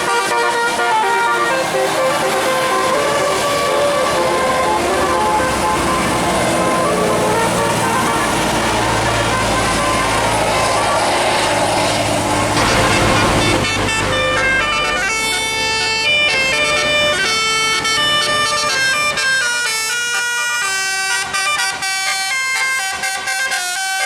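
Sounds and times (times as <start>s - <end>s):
bus engine: 0.0s - 24.0s
musical air horn tune: 0.0s - 24.0s.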